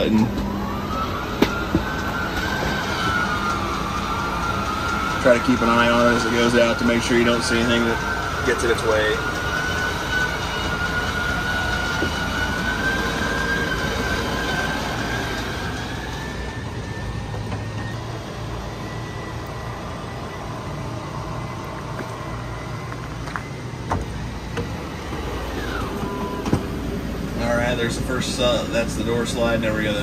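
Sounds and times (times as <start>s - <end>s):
electric motor whine: 0.0s - 30.0s.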